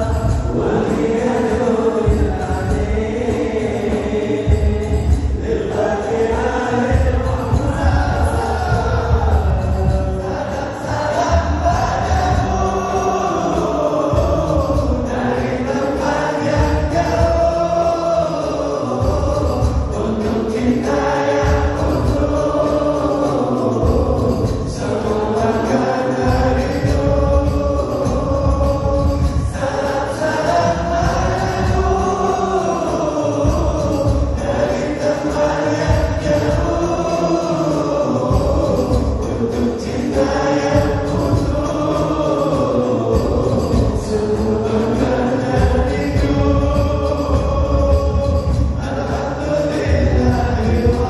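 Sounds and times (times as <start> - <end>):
man singing through microphone: 0.0 - 51.0
musical accompaniment with low beat: 0.0 - 51.0.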